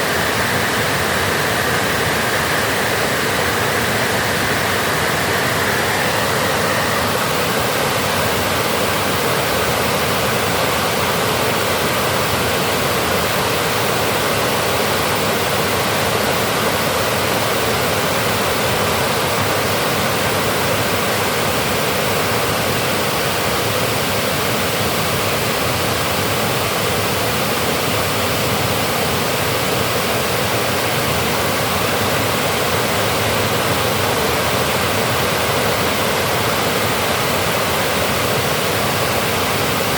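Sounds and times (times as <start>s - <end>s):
water rushing from a dam: 0.0s - 39.9s.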